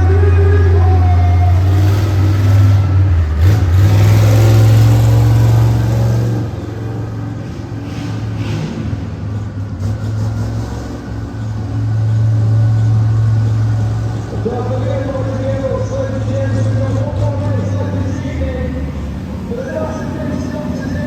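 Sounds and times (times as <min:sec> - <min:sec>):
monster truck engines under load: 0:00.0 - 0:21.0.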